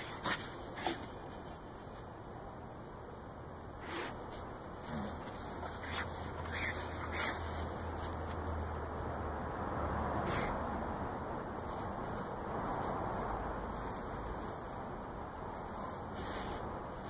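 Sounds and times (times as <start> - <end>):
low outdoor hiss: 0.0 - 17.0
night insects chirring: 0.0 - 17.0.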